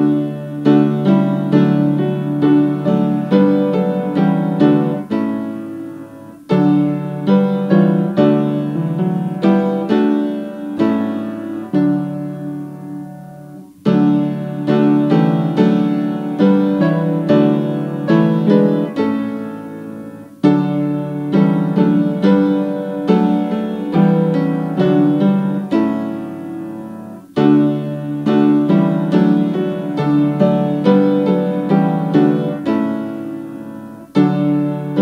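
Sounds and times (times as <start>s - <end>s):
piano playing hymn chords: 0.0s - 35.0s.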